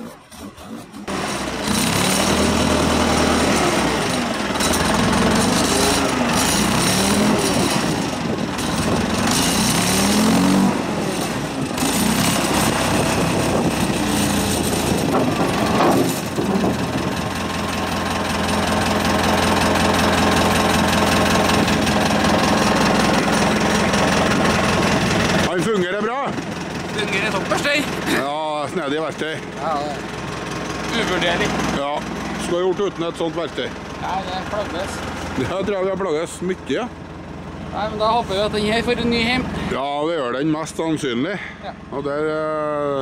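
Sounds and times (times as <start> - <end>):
diesel engine revving: 0.0 - 43.0.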